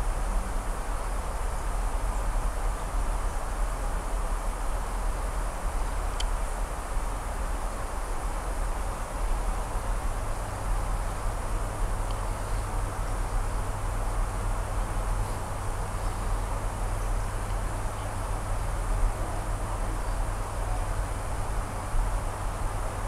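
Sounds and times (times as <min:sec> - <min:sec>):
constant even hiss: 0:00.0 - 0:23.0
low electrical hum: 0:00.0 - 0:23.0.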